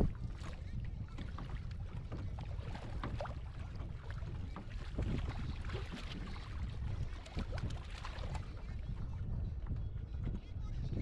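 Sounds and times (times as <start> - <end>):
water lapping against boat hull: 0.0 - 11.0
wind rumbling on microphone: 0.0 - 11.0.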